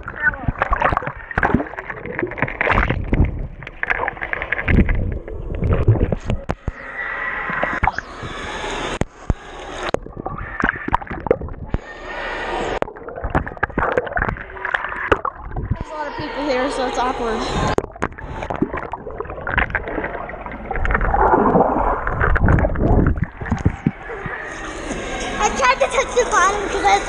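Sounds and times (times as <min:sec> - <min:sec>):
pool water splashing: 0:00.0 - 0:27.0
underwater gurgling: 0:00.0 - 0:27.0.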